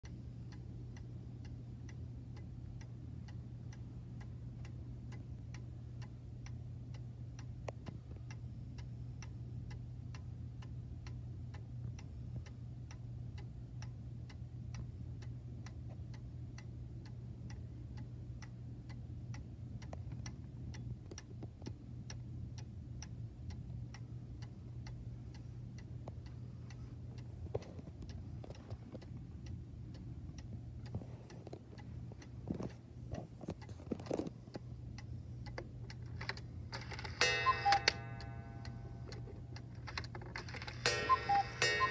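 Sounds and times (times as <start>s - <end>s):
clock ticking: 0.0s - 41.9s.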